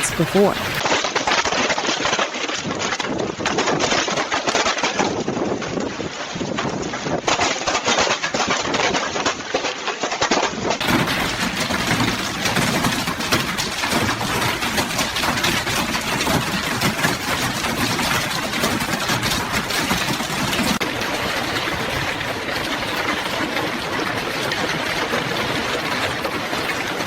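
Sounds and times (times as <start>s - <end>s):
hail pelting hard surfaces: 0.0s - 27.0s.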